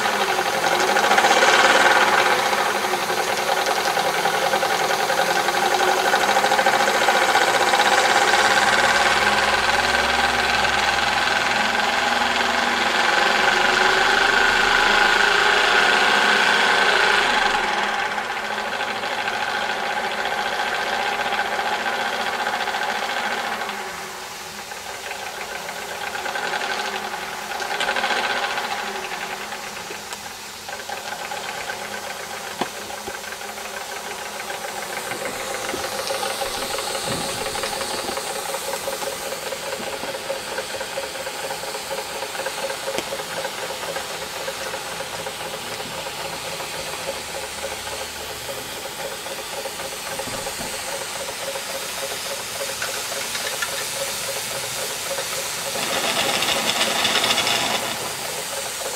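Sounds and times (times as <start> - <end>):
model steam engine rattle: 0.0 - 58.9
steam hissing: 0.0 - 58.9.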